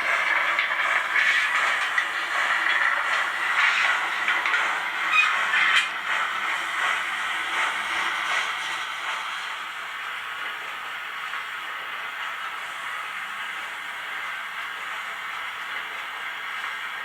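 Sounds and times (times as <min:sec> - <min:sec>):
model locomotive steam hiss: 0:00.0 - 0:17.0.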